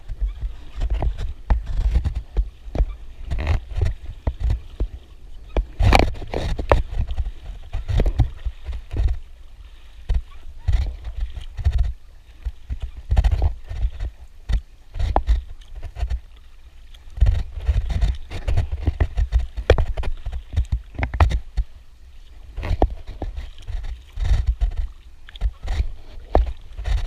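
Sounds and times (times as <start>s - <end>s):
paddle strokes splashing: 0.0s - 27.0s.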